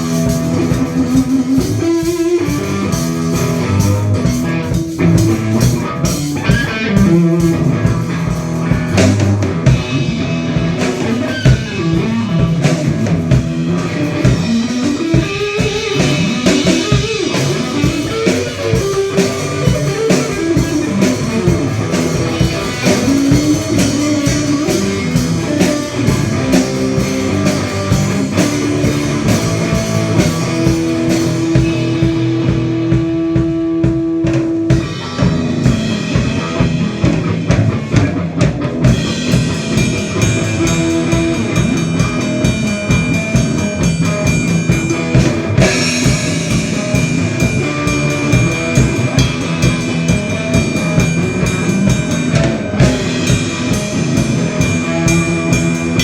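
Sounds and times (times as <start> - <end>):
blues-rock band playing: 0.0 - 56.0.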